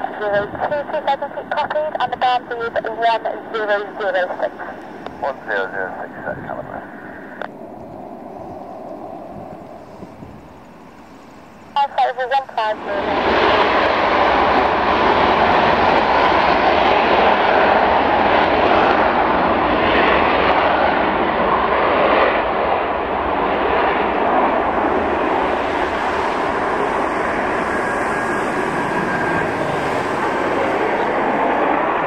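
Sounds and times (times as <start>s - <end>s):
jet taking off: 0.0s - 32.0s.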